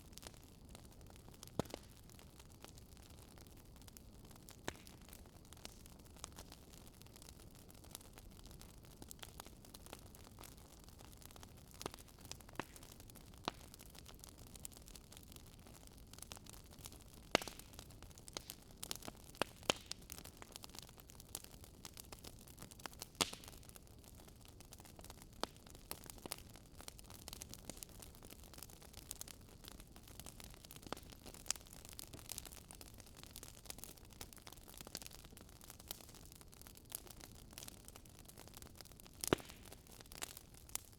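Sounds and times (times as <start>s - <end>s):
bonfire crackling: 0.0s - 40.9s.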